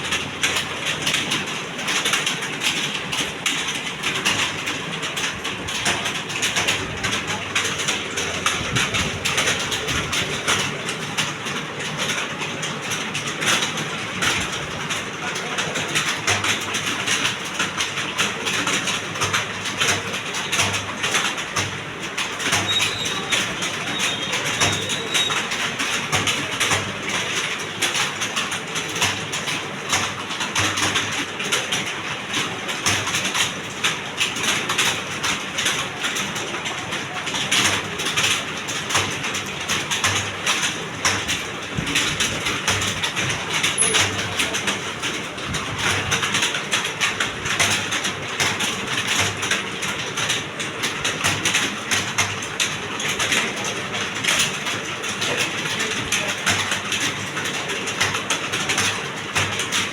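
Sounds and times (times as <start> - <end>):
many keyboards clattering: 0.0 - 59.9.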